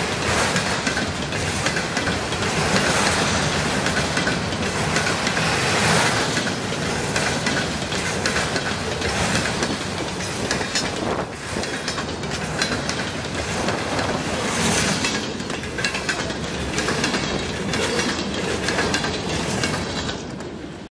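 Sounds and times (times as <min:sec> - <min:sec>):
freight train passing: 0:00.0 - 0:20.9
wheels clicking over rail joints: 0:00.0 - 0:20.9.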